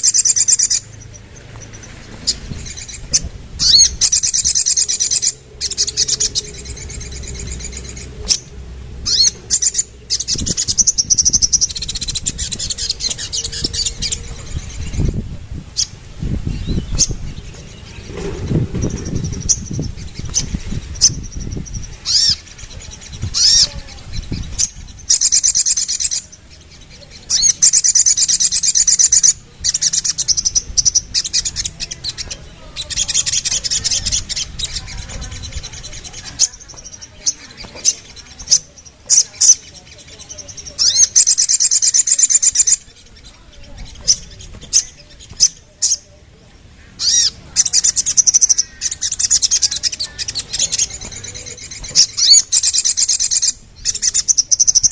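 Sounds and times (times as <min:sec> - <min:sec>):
bird singing high trills: 0:00.0 - 0:15.2, 0:15.8 - 0:46.2, 0:46.9 - 0:54.9.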